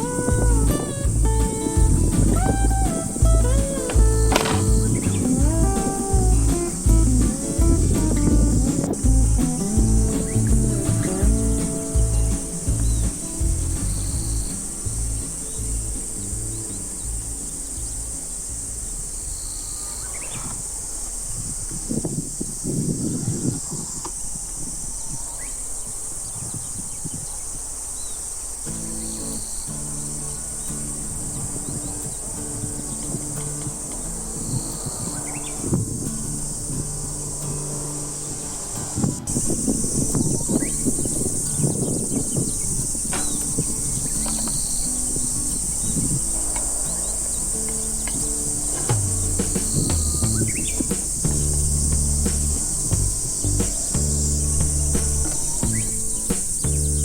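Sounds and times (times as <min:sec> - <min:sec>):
rustling and bumping: 0:00.0 - 0:18.9, 0:28.7 - 0:57.0
soft background music: 0:00.0 - 0:20.4, 0:28.8 - 0:57.0
insects chorus: 0:00.0 - 0:57.0.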